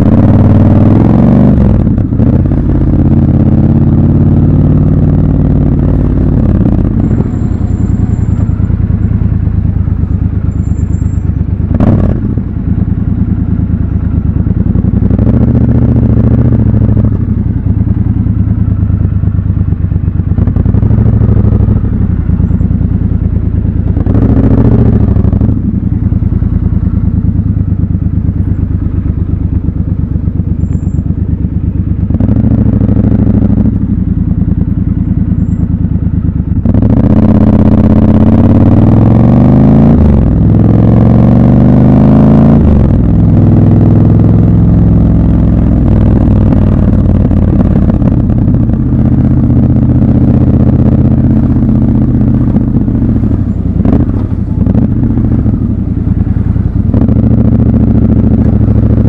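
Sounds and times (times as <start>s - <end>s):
motorcycle engine with throttle blips: 0.0s - 59.0s.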